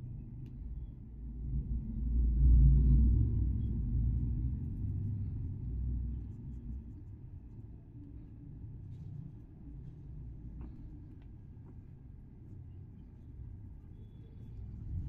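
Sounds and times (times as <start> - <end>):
low rumble: 0.0 - 11.7, 14.4 - 15.0.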